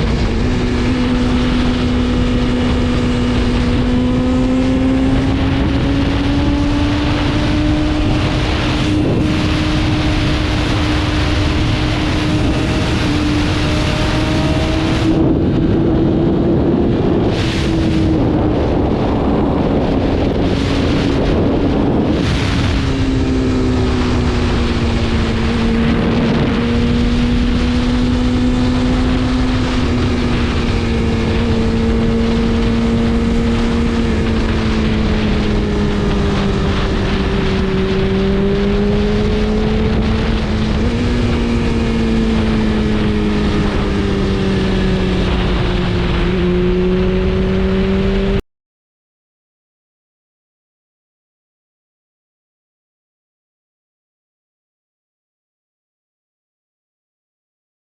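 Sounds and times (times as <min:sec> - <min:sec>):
motorcycle engine running: 0:00.0 - 0:48.4
wind rushing over microphone: 0:00.0 - 0:48.4.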